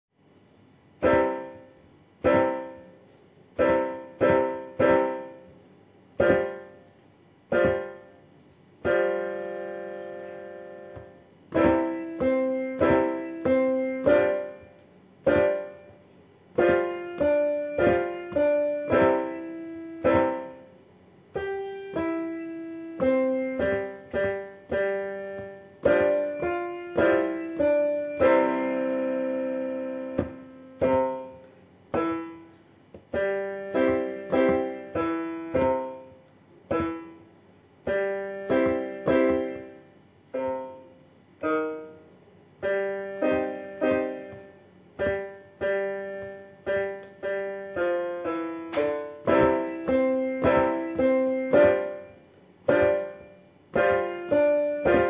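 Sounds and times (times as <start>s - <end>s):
piano piece: 0.2s - 55.0s.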